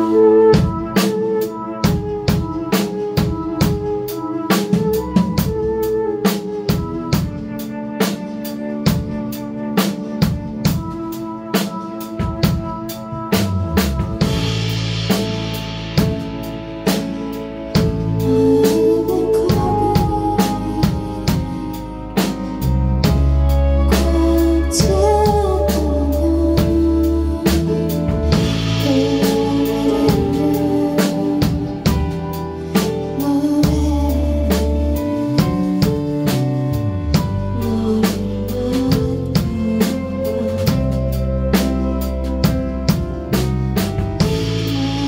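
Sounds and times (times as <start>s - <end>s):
bass: 0.0s - 45.0s
drum kit beat: 0.0s - 45.0s.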